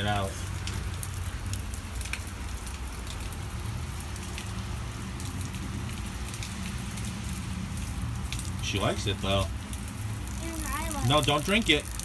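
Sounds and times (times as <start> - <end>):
rain pattering: 0.0 - 12.0
water dripping from gutter: 0.0 - 12.0.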